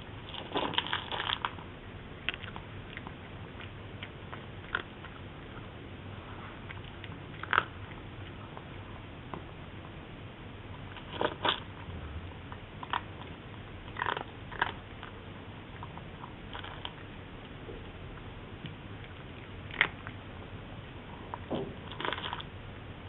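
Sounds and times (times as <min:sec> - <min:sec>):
cat crunching dry kibble: 0:00.2 - 0:05.7, 0:06.4 - 0:09.4, 0:10.8 - 0:17.9, 0:18.8 - 0:22.5.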